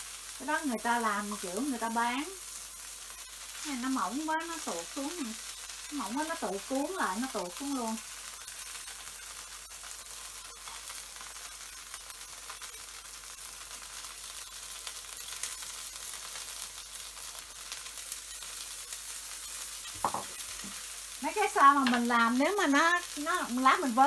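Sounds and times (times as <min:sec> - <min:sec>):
crepe sizzling in oil: 0:00.0 - 0:24.0.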